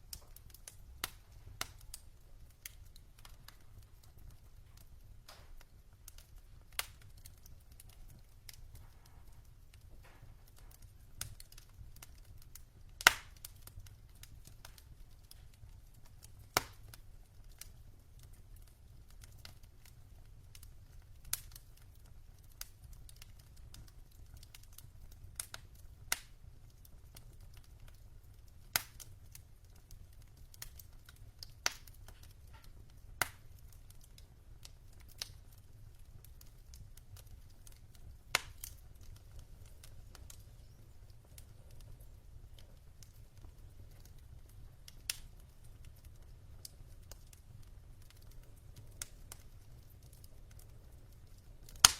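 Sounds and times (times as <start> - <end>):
logs crackling in fireplace: 0.0 - 51.9.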